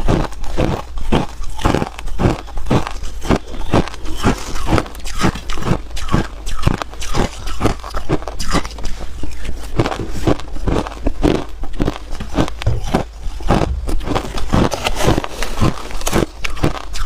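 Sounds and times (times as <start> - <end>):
ice being chewed crunching: 0.0 - 17.0.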